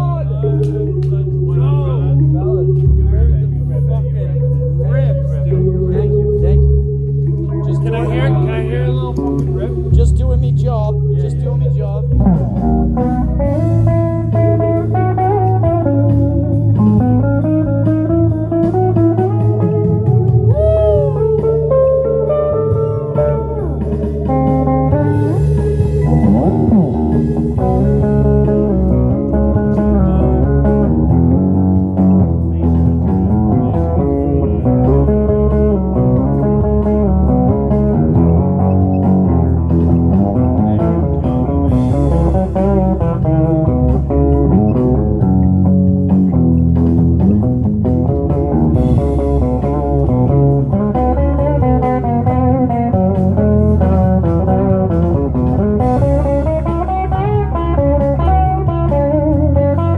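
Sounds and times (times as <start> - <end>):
guitar picked notes: 0.0 - 59.9
steady low notes: 0.0 - 59.9.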